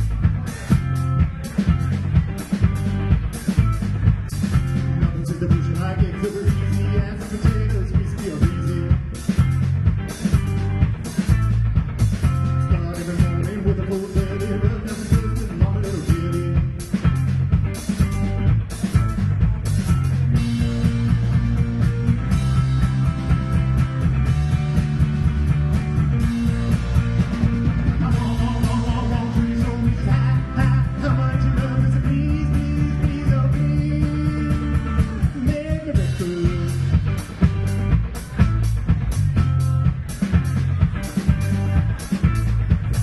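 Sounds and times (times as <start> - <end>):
drum kit: 0.0 - 43.0
electric guitars: 0.0 - 43.0.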